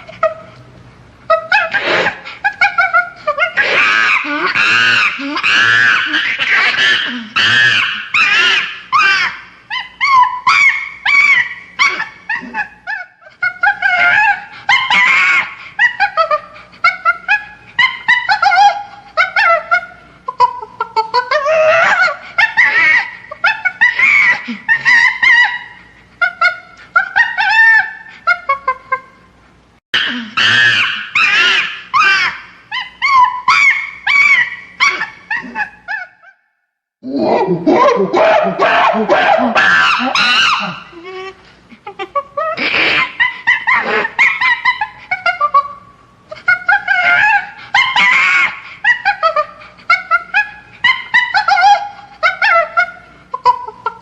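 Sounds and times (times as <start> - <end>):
chimpanzee screaming: 1.3 - 29.1, 30.0 - 36.4, 37.0 - 54.0.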